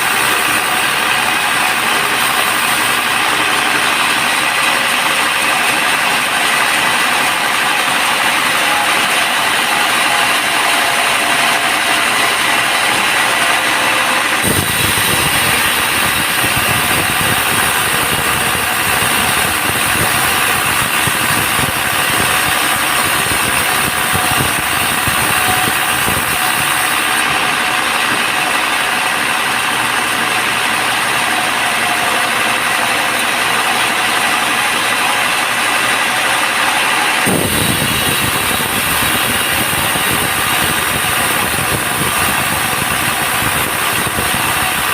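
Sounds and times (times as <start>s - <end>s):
bandsaw sawmill running: 0.0s - 44.9s
deep rough machine rumble: 0.0s - 44.9s.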